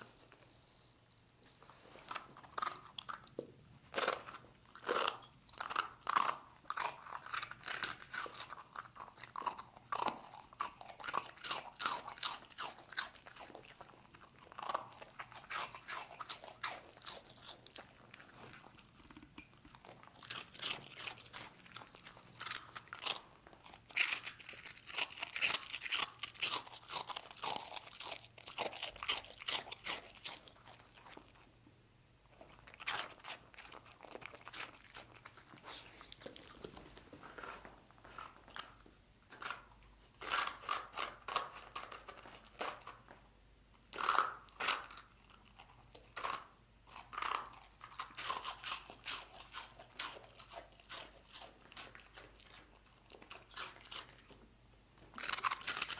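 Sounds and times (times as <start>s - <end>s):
dog crunching dry rusk: 1.8s - 31.5s, 32.3s - 43.2s, 43.9s - 55.9s.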